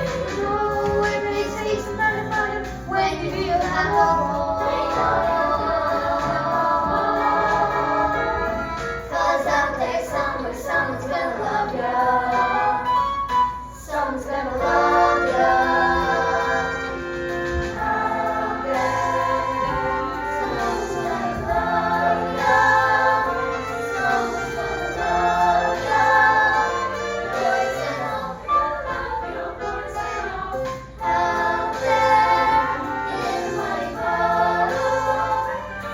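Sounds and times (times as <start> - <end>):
group singing in chorus: 0.0 - 12.9, 13.8 - 35.9
musical accompaniment: 0.0 - 35.9.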